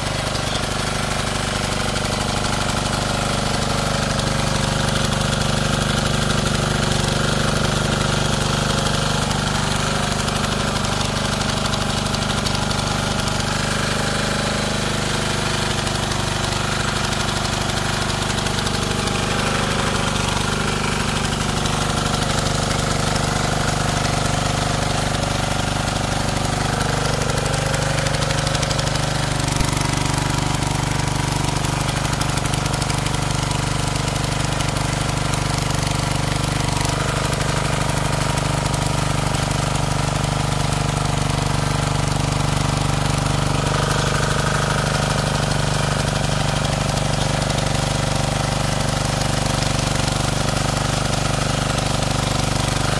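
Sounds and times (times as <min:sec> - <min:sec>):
tiller engine running: 0:00.0 - 0:52.9.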